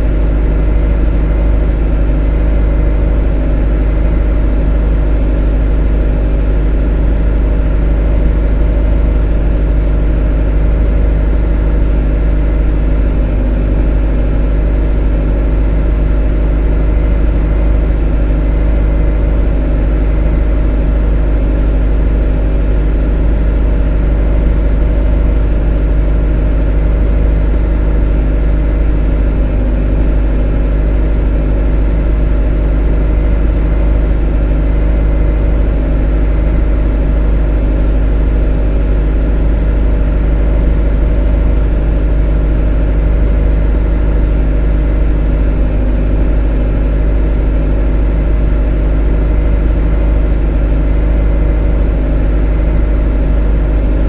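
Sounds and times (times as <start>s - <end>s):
motor droning: 0.0s - 54.0s.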